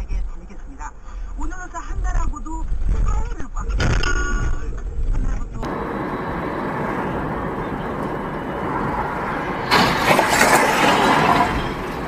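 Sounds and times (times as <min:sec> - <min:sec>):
road and engine noise: 0:00.0 - 0:12.0.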